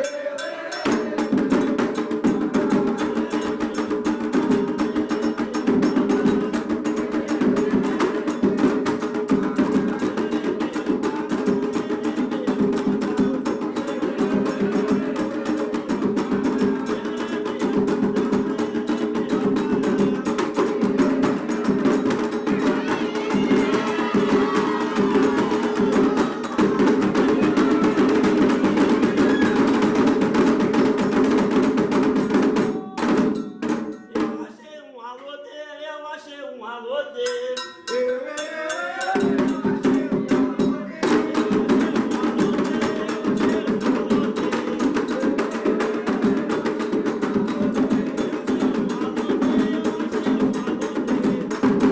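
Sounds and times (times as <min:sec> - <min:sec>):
rapid hand drumming: 0:00.8 - 0:34.5, 0:39.0 - 0:51.9.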